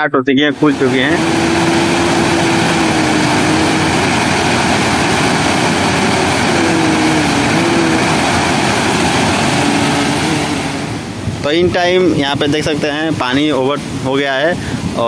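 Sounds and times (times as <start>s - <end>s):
water rushing over spillway: 0.5s - 15.0s.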